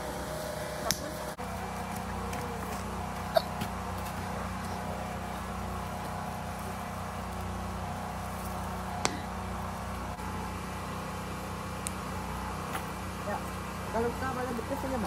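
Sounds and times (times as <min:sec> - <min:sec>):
campfire burning: 0:00.0 - 0:15.0
low machine hum: 0:00.0 - 0:15.0.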